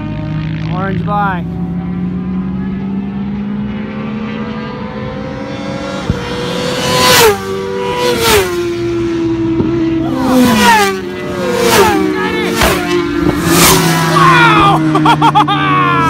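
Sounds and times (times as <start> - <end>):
racing motorcycles passing: 0.0 - 16.0.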